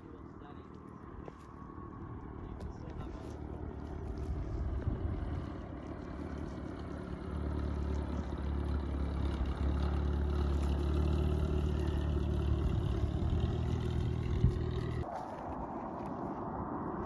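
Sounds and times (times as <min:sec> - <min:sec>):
aircraft engine rumble: 0:00.0 - 0:15.1.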